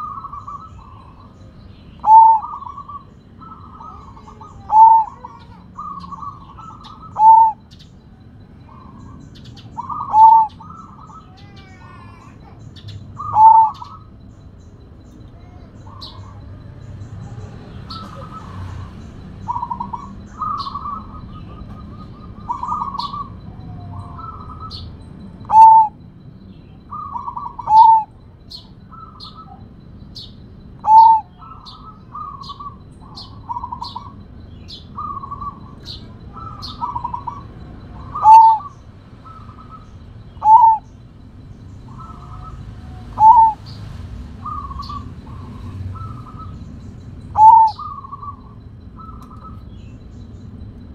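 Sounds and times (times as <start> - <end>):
dove cooing: 0.0 - 50.0.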